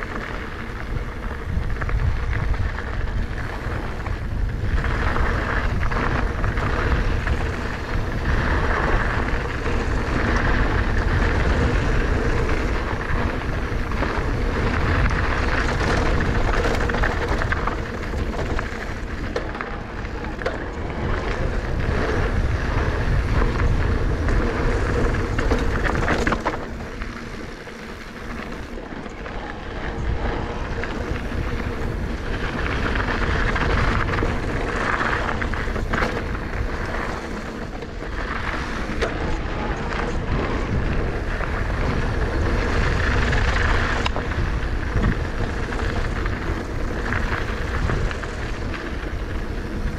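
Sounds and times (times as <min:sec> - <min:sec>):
bike clattering over bumps: 0:00.0 - 0:49.9
tyres rolling over dirt: 0:00.0 - 0:49.9
wind rushing over microphone: 0:00.0 - 0:49.9.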